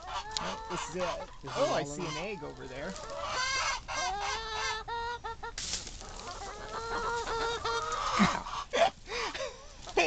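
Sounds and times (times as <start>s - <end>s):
hens clucking and calling: 0.0s - 10.0s.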